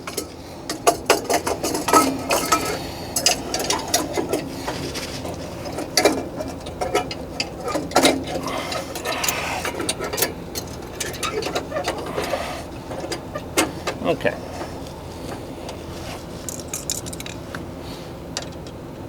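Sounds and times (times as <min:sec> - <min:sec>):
metal parts clicking and clinking: 0:00.0 - 0:17.6.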